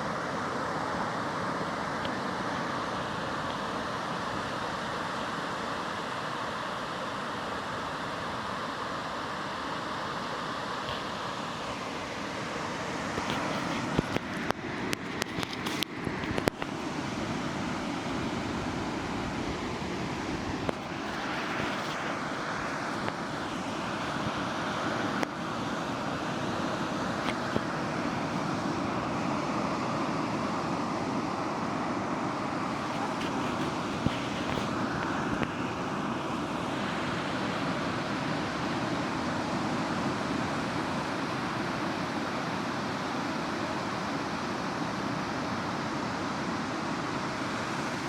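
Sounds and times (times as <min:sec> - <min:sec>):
surf breaking on beach: 0:00.0 - 0:48.0.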